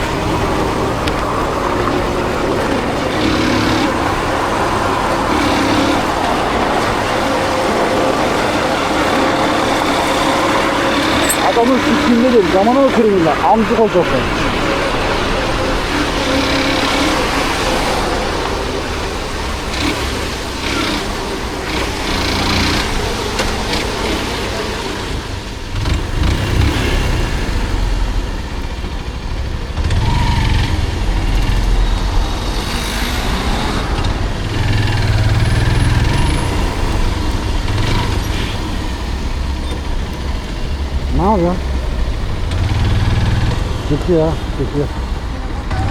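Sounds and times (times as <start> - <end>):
motorcycle engine rumble: 0.0 - 45.9
road noise: 0.0 - 45.9.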